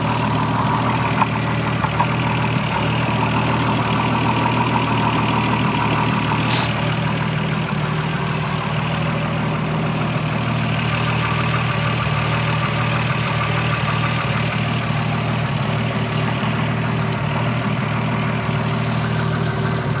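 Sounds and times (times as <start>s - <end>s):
car engine idling: 0.0s - 20.0s
fast light engine ticking: 0.0s - 20.0s.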